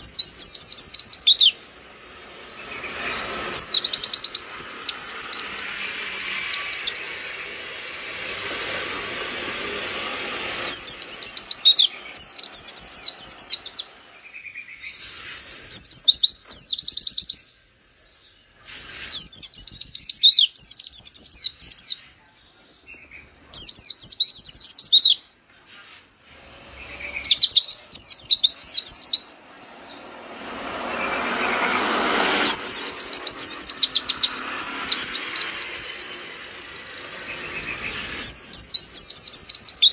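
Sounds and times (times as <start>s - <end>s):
rushing background noise: 0.0s - 24.8s, 25.8s - 39.9s
white-eye singing chirps: 0.0s - 39.9s.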